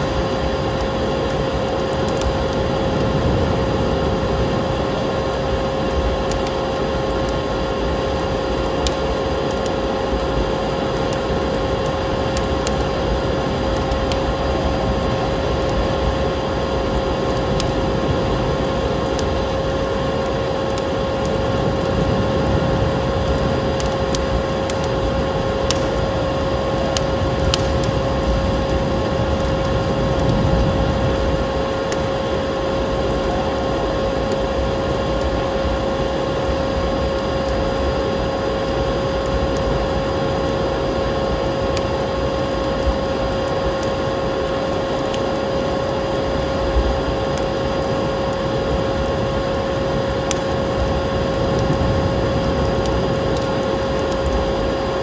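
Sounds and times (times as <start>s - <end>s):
constant hum: 0.0s - 55.0s
steady rushing noise: 0.0s - 55.0s
wood fire crackling: 0.0s - 55.0s.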